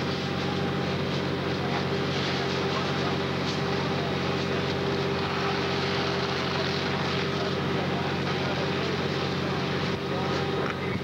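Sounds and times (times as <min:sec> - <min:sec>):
hose streams spraying water: 0:00.0 - 0:10.8
pump engines droning: 0:00.0 - 0:11.0.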